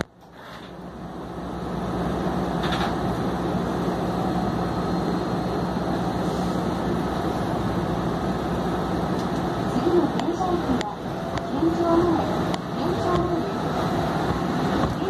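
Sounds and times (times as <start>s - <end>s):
monorail train running hum: 0.0s - 15.0s.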